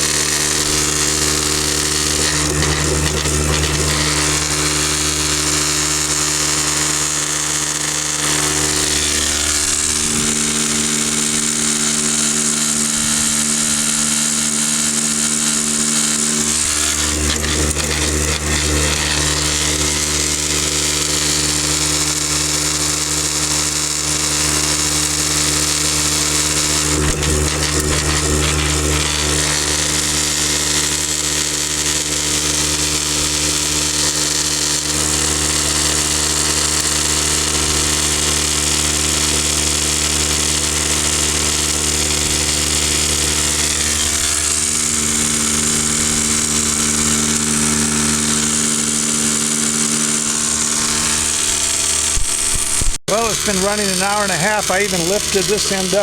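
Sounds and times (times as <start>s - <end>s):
vibrating machine motor hum: 0.0s - 56.0s.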